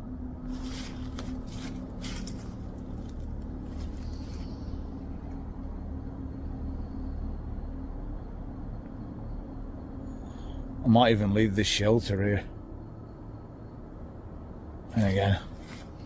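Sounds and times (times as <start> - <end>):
constant hum: 0.0 - 16.0
low steady rumble: 0.0 - 16.0.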